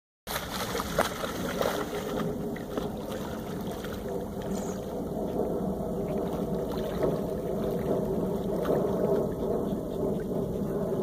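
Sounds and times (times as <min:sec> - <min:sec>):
dogs splashing through water: 0:00.3 - 0:11.0
low rumble: 0:00.3 - 0:11.0.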